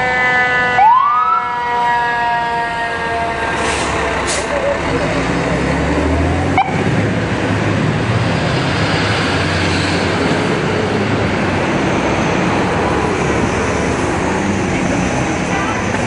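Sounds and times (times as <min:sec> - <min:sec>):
road noise: 0:00.0 - 0:16.0
diesel engine rumble: 0:02.5 - 0:16.0.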